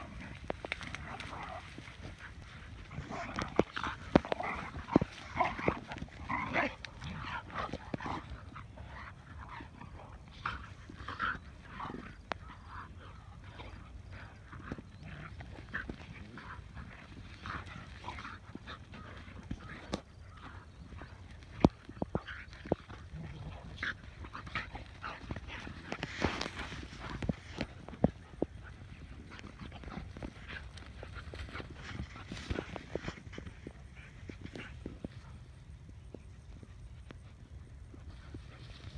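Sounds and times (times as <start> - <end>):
dogs vocalising while playing: 0.0 - 38.9.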